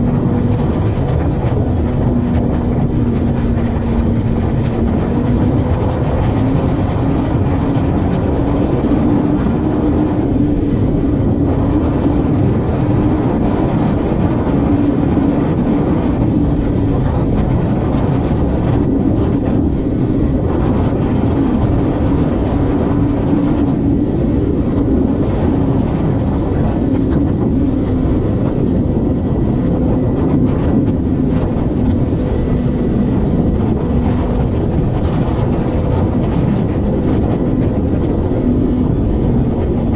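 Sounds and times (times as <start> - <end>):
engine drone: 0.0 - 39.9
road and wind rumble: 0.0 - 39.9.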